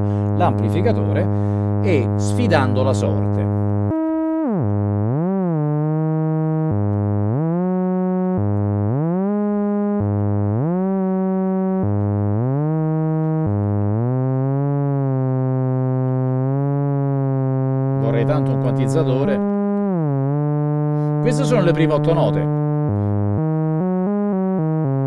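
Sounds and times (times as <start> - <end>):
synthesizer tone sliding: 0.0 - 25.0.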